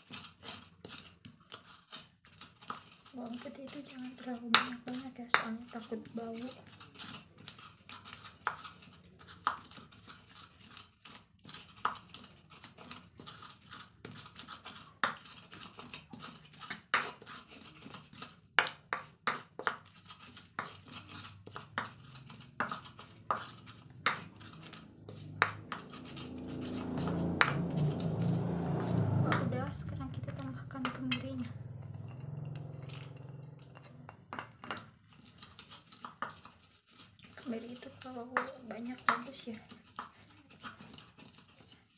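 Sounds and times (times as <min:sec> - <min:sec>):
pestle knocking in mortar: 0:00.0 - 0:41.8.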